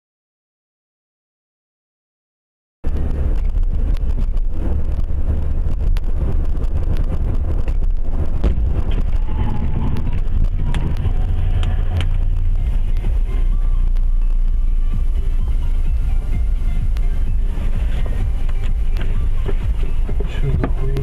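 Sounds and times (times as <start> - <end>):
car road and engine rumble: 2.8 - 21.0.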